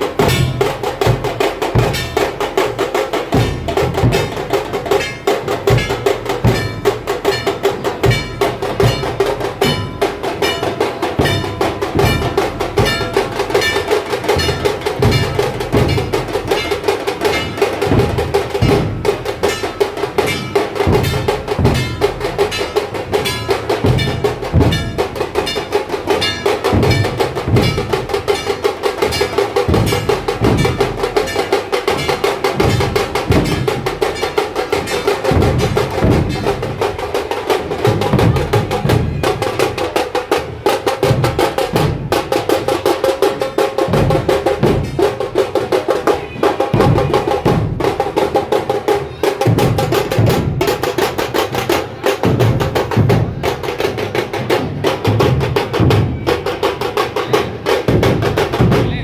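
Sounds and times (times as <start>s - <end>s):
deep drum beats: 0.0s - 59.0s
rapid drum strokes: 0.0s - 59.0s.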